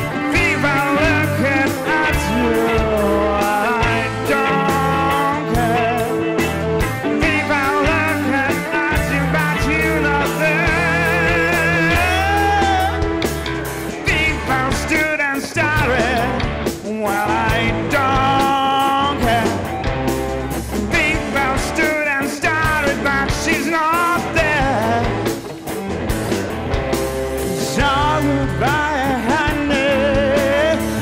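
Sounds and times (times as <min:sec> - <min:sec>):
blues-rock band playing: 0:00.0 - 0:31.0.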